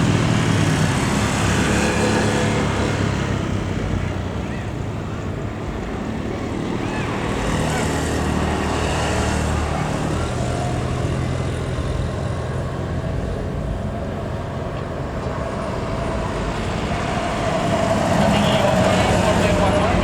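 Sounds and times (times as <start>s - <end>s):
engine whine: 0.0s - 20.0s
passing vehicle engines rumbling: 0.0s - 20.0s.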